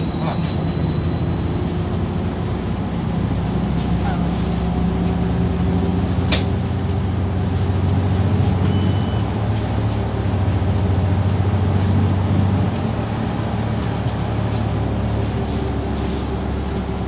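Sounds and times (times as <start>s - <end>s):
bus engine and road drone: 0.0s - 17.0s.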